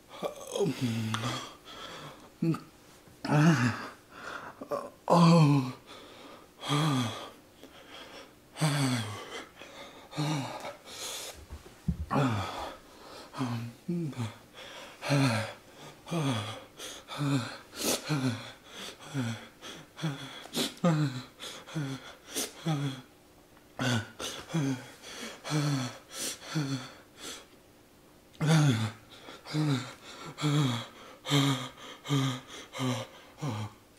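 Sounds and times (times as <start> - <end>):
man breathing hard: 0.0 - 2.3, 3.3 - 4.8, 5.8 - 23.1, 23.8 - 27.6, 28.4 - 33.8.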